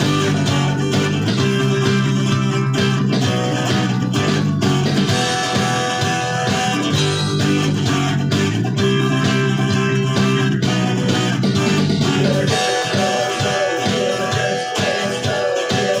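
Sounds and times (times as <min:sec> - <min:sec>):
guitar strumming chords: 0:00.0 - 0:16.0.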